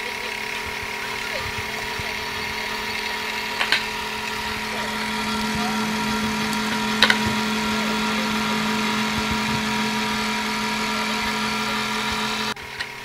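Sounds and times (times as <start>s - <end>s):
mechanical engine-like hum: 0.0s - 12.6s.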